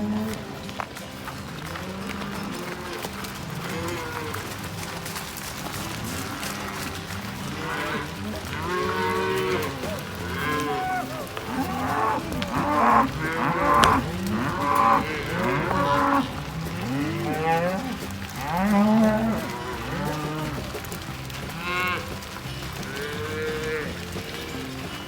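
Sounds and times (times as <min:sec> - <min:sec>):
cattle mooing: 0:00.0 - 0:00.8, 0:01.6 - 0:24.8.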